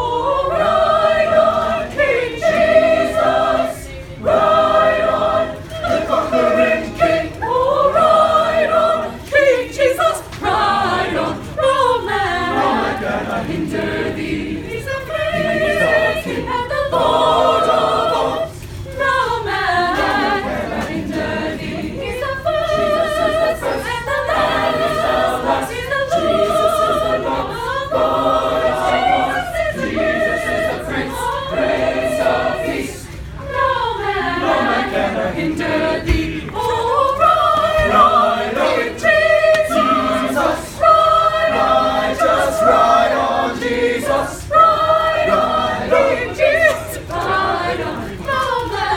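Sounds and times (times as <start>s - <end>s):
choir singing a cappella: 0.0s - 48.9s.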